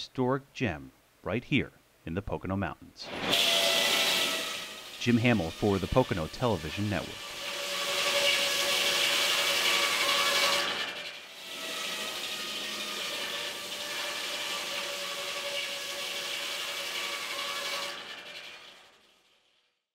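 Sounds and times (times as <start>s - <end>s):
circular saw cutting log: 3.0s - 19.5s.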